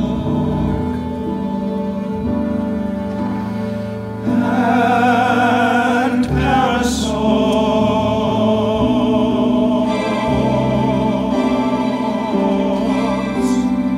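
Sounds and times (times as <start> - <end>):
ensemble singing held chords: 0.0 - 13.9.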